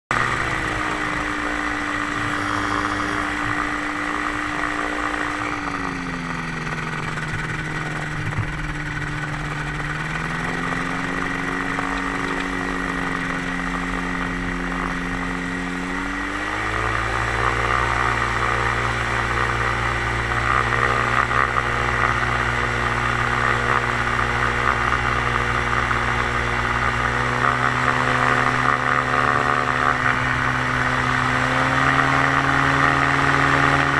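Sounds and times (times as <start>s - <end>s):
gyroplane engine running: 0.1s - 33.9s.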